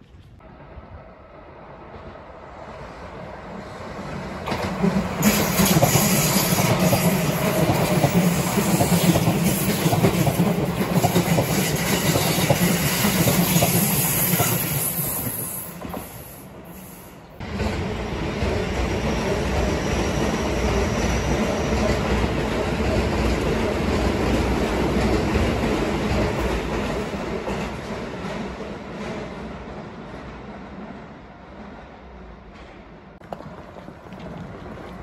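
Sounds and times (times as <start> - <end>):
electric train passing: 0.4 - 35.0.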